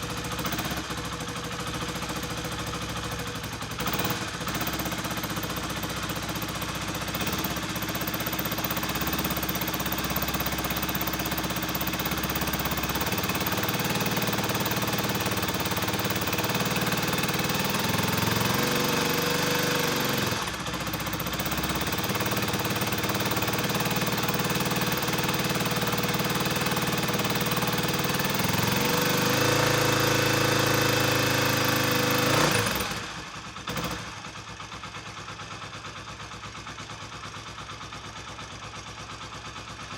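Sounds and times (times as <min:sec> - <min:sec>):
motorcycle engine revving: 0:00.0 - 0:35.4.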